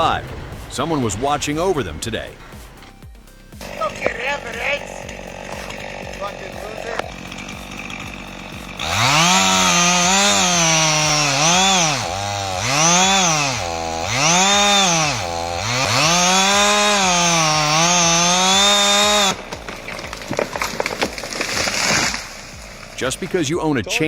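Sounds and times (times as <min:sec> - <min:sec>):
chainsaw engine revving: 0:03.6 - 0:23.5.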